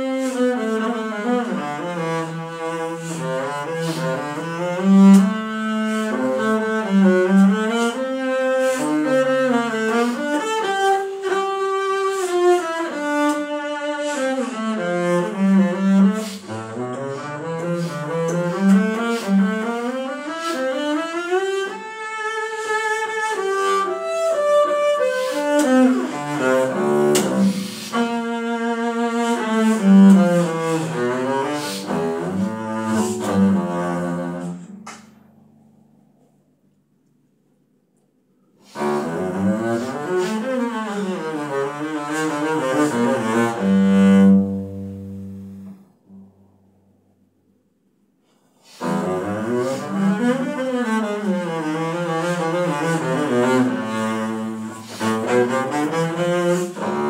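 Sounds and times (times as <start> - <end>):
bowed double bass: 0.0 - 36.1, 38.6 - 46.6, 48.7 - 57.0.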